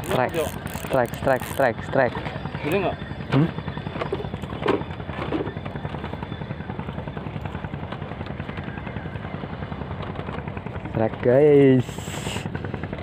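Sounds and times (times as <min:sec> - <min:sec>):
small engine chugging: 0:00.0 - 0:13.0.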